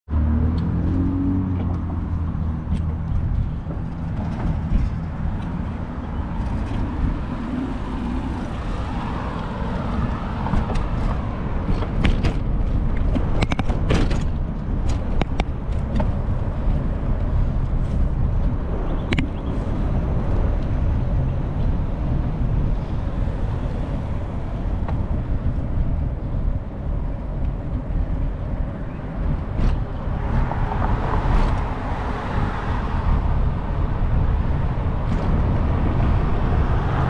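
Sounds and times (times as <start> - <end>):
street traffic: 0.1 - 37.0
wind rumbling on microphone: 0.1 - 37.0.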